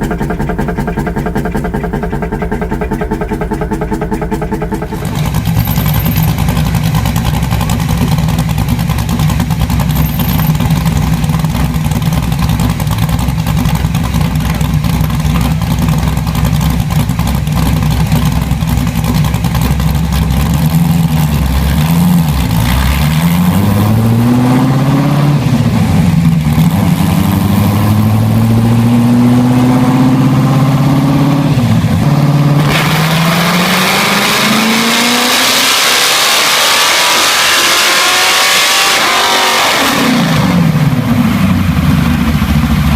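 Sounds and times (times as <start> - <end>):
engine running and revving: 0.0 - 42.9.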